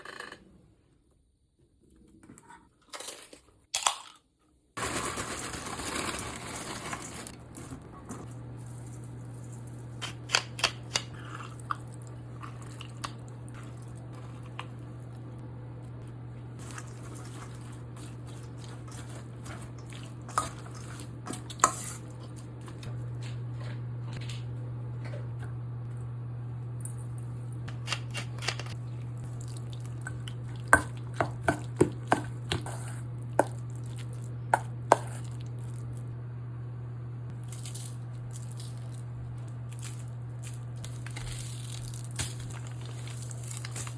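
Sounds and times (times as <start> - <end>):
steady low hum: 7.1 - 43.9.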